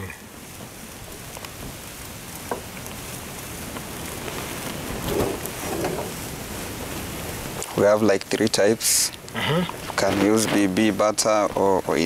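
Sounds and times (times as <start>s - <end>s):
omelette sizzling in a pan: 0.0s - 12.0s.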